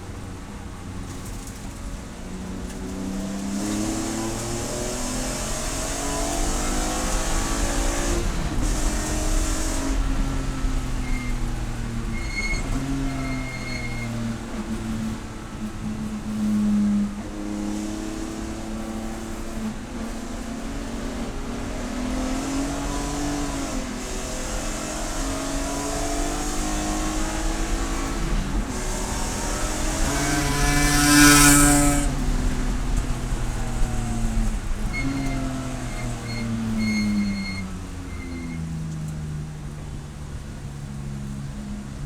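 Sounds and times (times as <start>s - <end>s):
race car engine revving: 0.5s - 42.0s.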